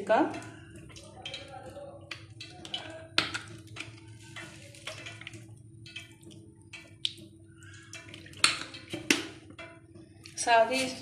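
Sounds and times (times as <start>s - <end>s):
liquid splashing and dripping: 0.0s - 10.7s.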